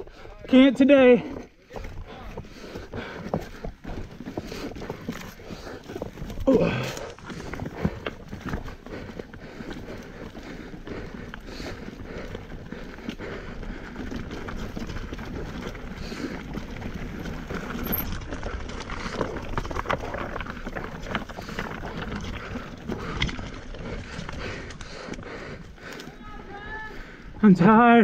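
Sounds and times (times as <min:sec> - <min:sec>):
bike clicking and rattling: 0:00.0 - 0:28.0
bike tyres on dirt: 0:00.0 - 0:28.0.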